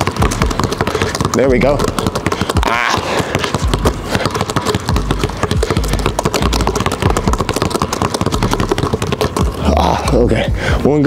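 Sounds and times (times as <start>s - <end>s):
basketballs bouncing on hardwood: 0.0s - 10.8s.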